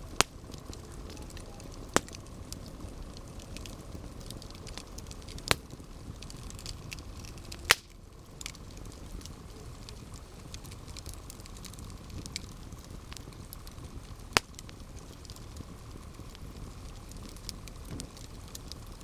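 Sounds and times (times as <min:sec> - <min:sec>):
burning wood popping loudly: 0:00.0 - 0:19.0
campfire crackling: 0:00.0 - 0:19.0.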